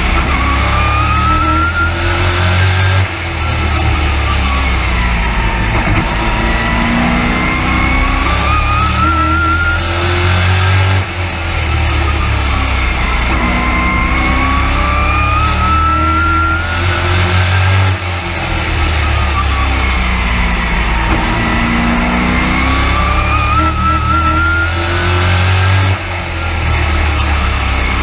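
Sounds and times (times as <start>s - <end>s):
race truck engine revving: 0.0s - 28.0s.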